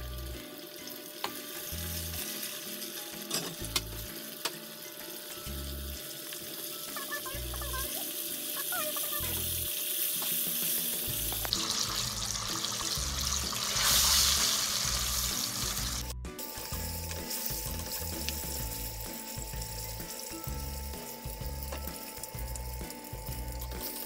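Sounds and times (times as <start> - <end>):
background music: 0.0 - 24.0
oil bubbling and sizzling: 0.0 - 24.0.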